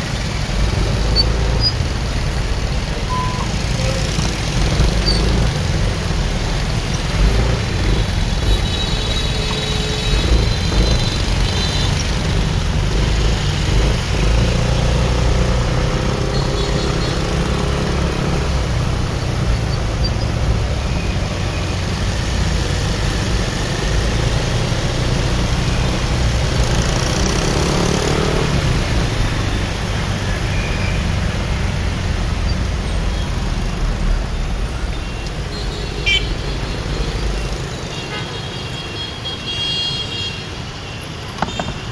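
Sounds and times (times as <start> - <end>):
surrounding traffic: 0.0 - 41.9.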